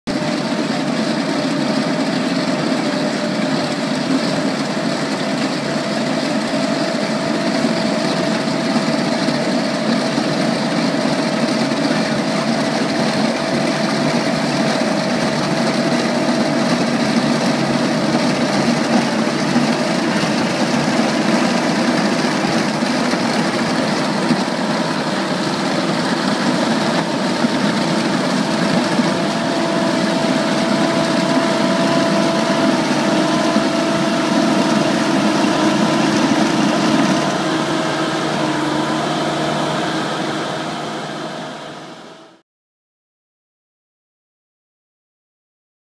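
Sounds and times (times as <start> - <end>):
milling drum grinding asphalt: 0.1 - 42.1
loader engine under load: 0.1 - 42.4
steady whine: 0.1 - 42.4.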